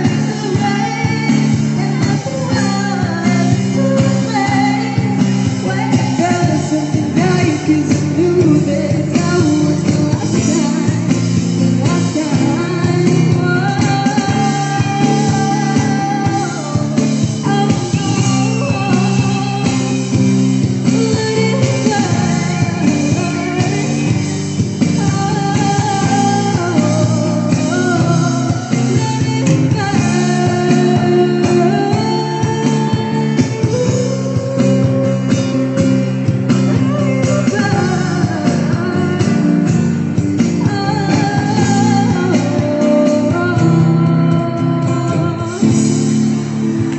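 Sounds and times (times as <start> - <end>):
guitar accompaniment: 0.0 - 46.9
person singing: 0.0 - 46.9.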